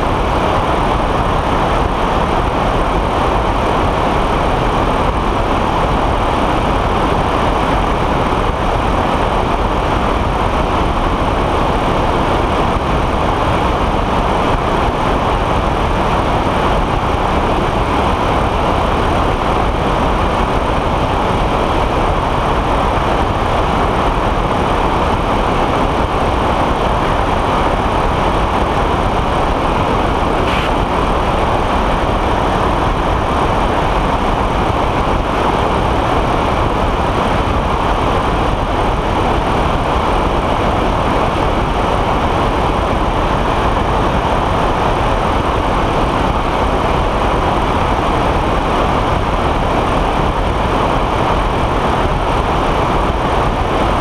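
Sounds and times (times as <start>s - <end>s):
aircraft engine and propeller: 0.0s - 54.0s
wind rushing over microphone: 0.0s - 54.0s.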